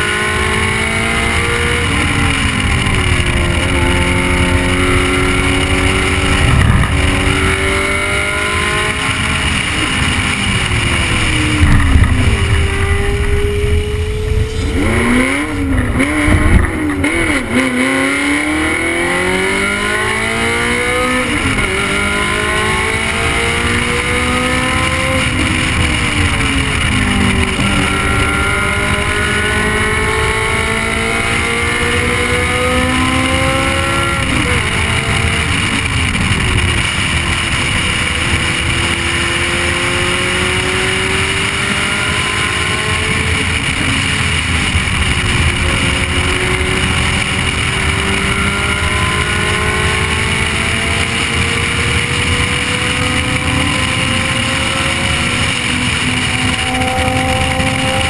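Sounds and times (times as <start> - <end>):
car engine accelerating hard: 0.0 - 58.0
steady rushing noise: 0.0 - 58.0.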